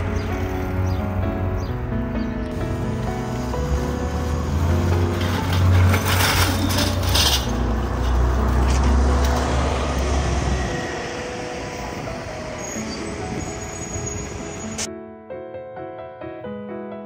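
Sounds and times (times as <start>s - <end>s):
heavy vehicle rumbling past: 0.0s - 14.9s
rush of traffic noise: 0.0s - 14.9s.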